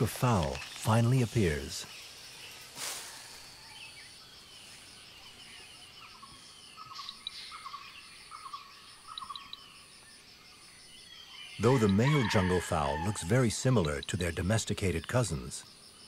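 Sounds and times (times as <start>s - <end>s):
birds calling: 0.0s - 16.0s
insects droning: 0.0s - 16.0s.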